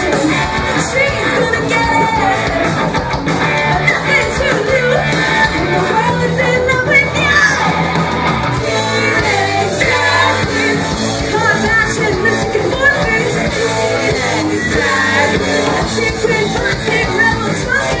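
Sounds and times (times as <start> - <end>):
woman singing lead vocal: 0.0 - 2.7, 3.7 - 7.8, 8.6 - 18.0
rock band playing: 0.0 - 18.0.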